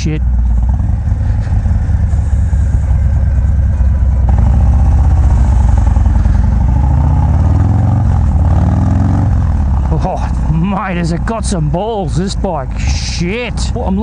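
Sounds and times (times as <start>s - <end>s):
motorcycle engine running loud: 0.0s - 14.0s.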